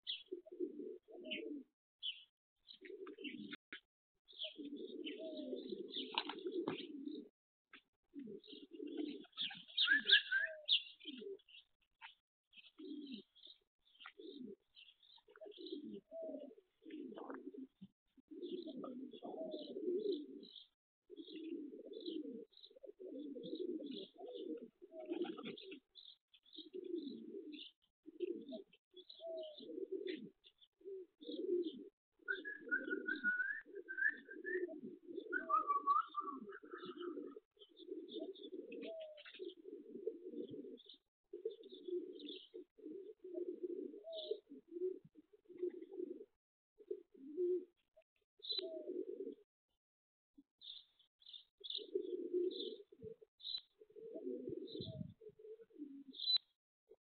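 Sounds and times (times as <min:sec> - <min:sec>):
pigeons cooing: 0:00.0 - 0:03.6, 0:04.3 - 0:47.8, 0:48.4 - 0:49.5, 0:50.6 - 0:56.5
small birds chirping: 0:00.0 - 0:46.2, 0:48.4 - 0:49.4, 0:50.6 - 0:56.6.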